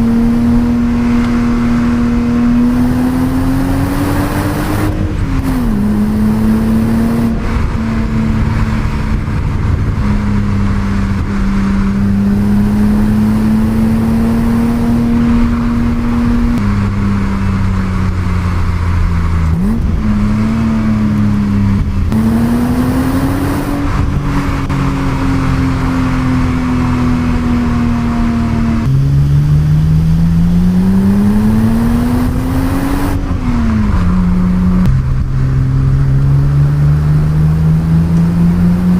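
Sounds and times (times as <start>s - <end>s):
car engine driving under load: 0.0s - 38.9s.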